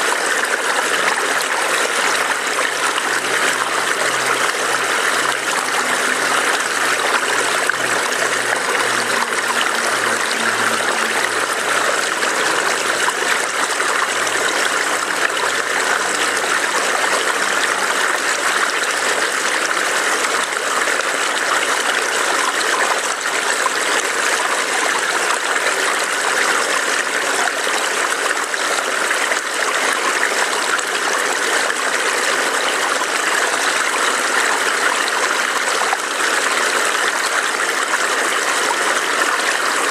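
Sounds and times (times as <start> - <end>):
stream burbling over rocks: 0.0 - 39.9.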